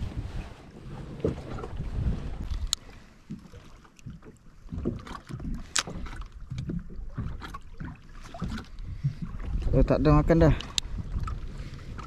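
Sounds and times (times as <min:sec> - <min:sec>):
wind buffeting microphone: 0:00.0 - 0:02.9, 0:04.7 - 0:12.0
waves slapping kayak hull: 0:00.0 - 0:12.0.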